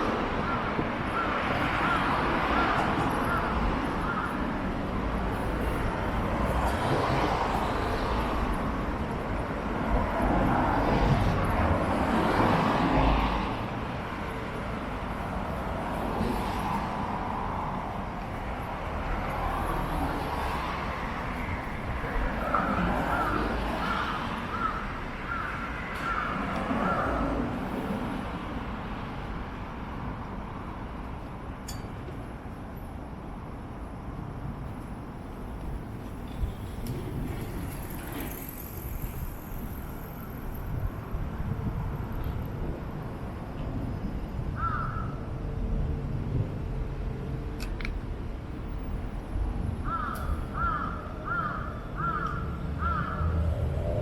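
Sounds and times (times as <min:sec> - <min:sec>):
road traffic hum: 0:00.0 - 0:54.0.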